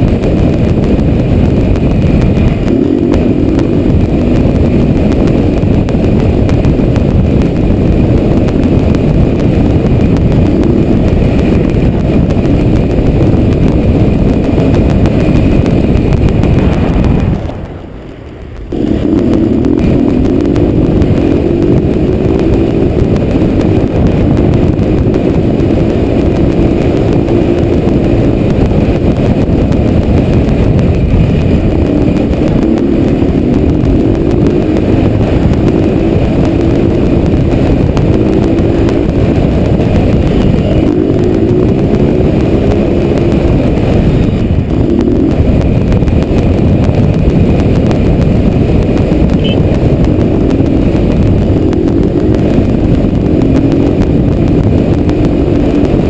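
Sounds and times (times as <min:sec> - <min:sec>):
motorcycle engine accelerating: 0:00.0 - 0:56.0
wind rushing on microphone: 0:00.0 - 0:56.0.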